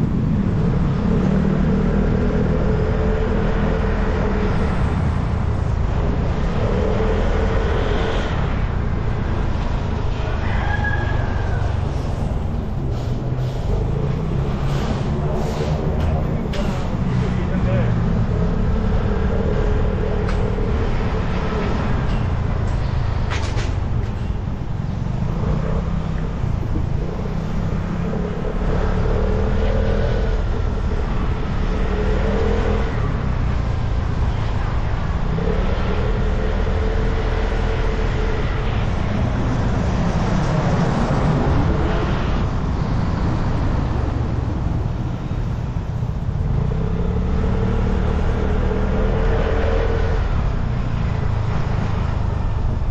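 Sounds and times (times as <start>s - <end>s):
road and traffic noise: 0.0s - 52.9s.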